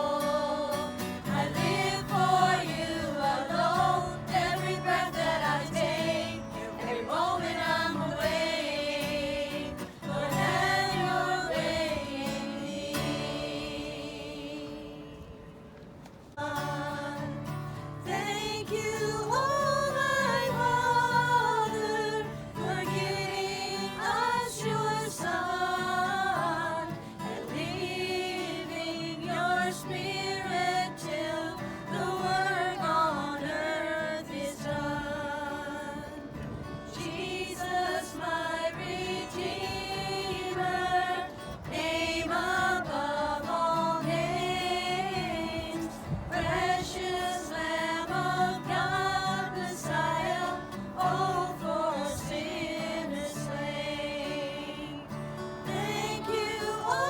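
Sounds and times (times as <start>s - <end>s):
voices singing a hymn: 0.0s - 57.0s.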